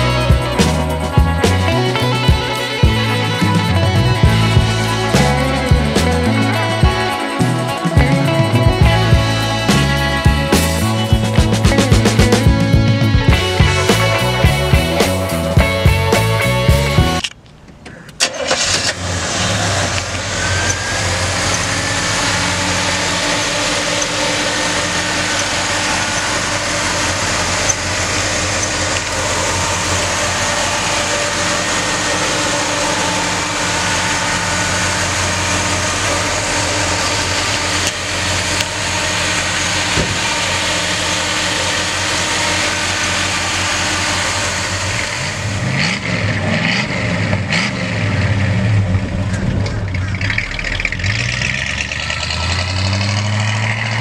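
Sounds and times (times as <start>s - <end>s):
car engine cranking: 0.0s - 54.0s
car engine idling: 0.0s - 54.0s.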